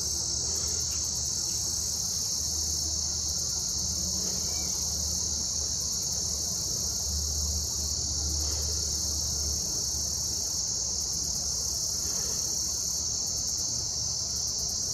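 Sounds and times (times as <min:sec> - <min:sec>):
insects singing shrill drone: 0:00.0 - 0:14.9.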